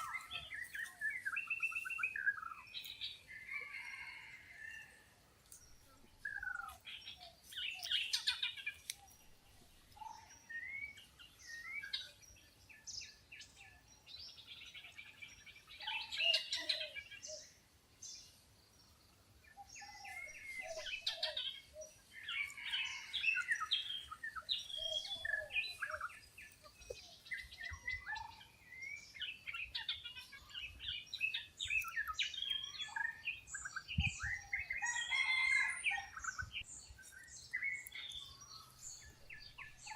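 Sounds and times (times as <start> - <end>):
wild birds chirping and trilling: 0.0 - 39.9.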